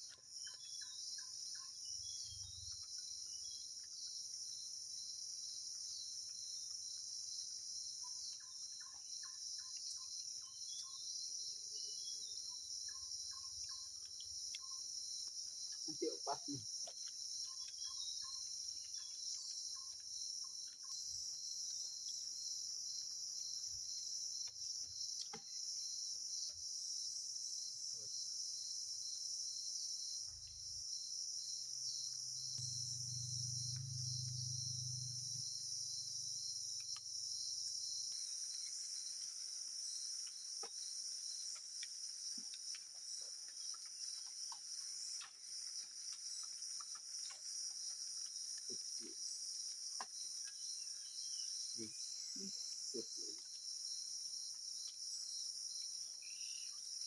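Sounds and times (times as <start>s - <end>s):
crickets and insects chorus: 0.0s - 57.0s.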